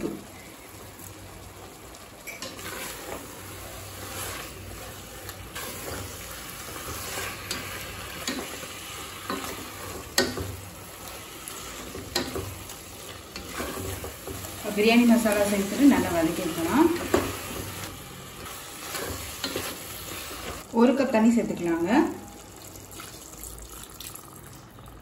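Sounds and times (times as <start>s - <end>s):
meat sizzling in a pot: 0.0s - 24.6s.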